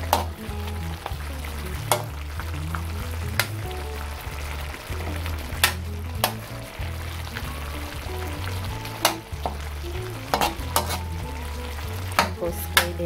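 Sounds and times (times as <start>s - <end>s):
sauce sizzling: 0.0s - 13.0s.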